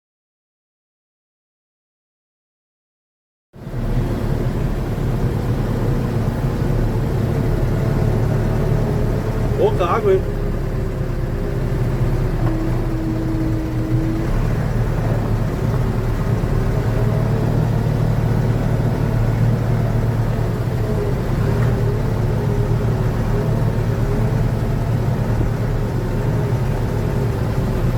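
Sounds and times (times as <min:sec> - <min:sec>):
vehicle engine drone: 0:03.6 - 0:27.9.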